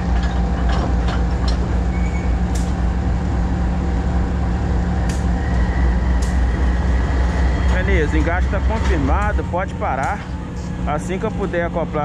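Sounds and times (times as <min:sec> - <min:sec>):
locomotive engine humming: 0:00.0 - 0:12.0.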